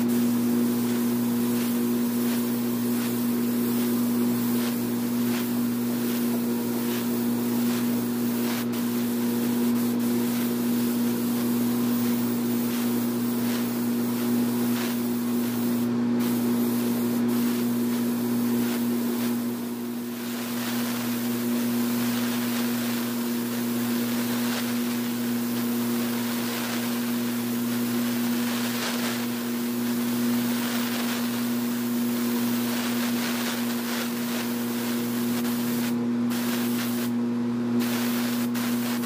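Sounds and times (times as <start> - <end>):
spray gun hissing: 0.0 - 37.2, 37.8 - 39.0.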